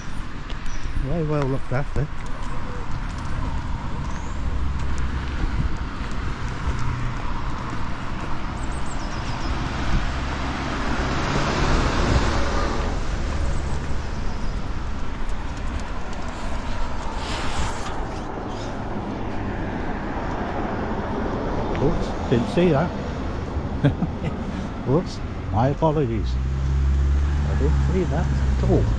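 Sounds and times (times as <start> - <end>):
traffic engine rumble: 0.0 - 28.9
vehicle passing: 1.1 - 28.9.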